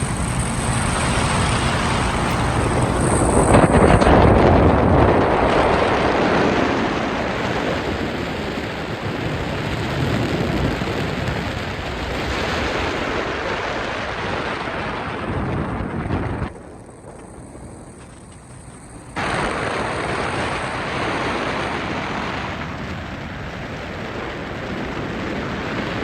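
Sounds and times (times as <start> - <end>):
boat running noise: 0.0 - 26.0
water: 0.0 - 26.0
wind buffeting microphone: 0.0 - 26.0.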